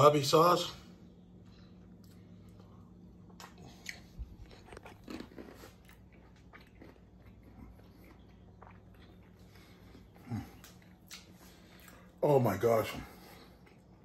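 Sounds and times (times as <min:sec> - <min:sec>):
man chewing: 0:01.3 - 0:12.2, 0:13.1 - 0:14.0.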